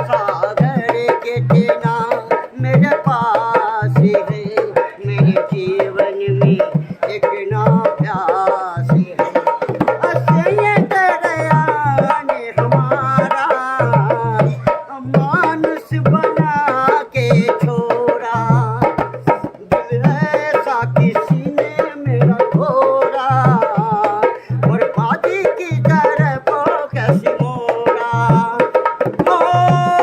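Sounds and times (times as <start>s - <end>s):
barrel drum beating: 0.0s - 30.0s.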